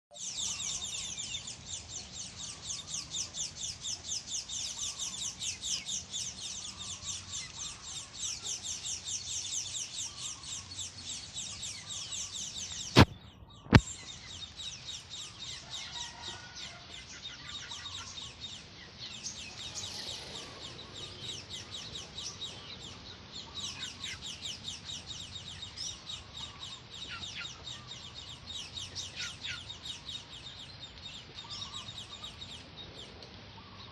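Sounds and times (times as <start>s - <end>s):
small birds chirping: 0.1s - 33.9s
downward-sweeping bird calls: 0.2s - 33.9s.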